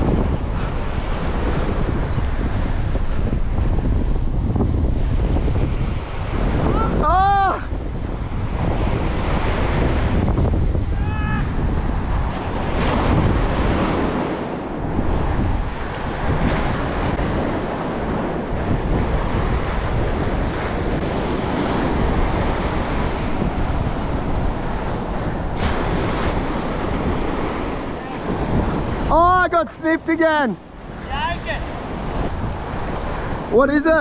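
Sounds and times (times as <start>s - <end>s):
surf breaking on beach: 0.0s - 34.0s
wind buffeting microphone: 0.0s - 34.0s.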